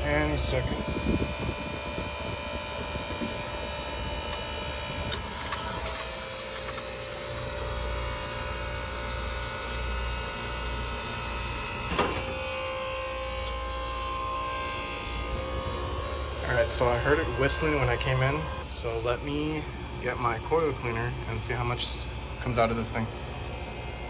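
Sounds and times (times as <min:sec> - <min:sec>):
ice machine humming: 0:00.0 - 0:24.0.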